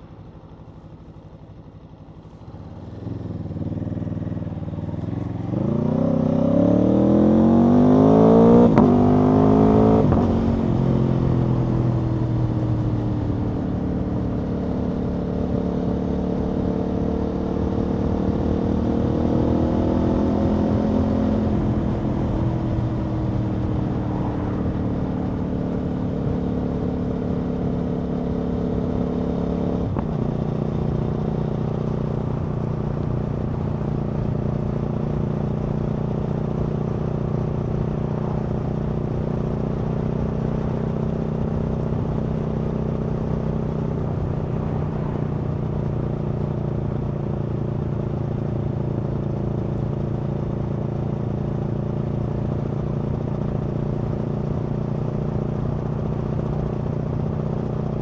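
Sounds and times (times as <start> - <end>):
motorcycle engine cruising: 0.0 - 58.0
road and wind noise: 0.0 - 58.0.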